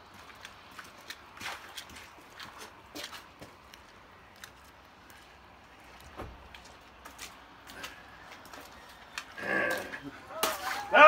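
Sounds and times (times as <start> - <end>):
footsteps on wet pavement: 0.0 - 11.0.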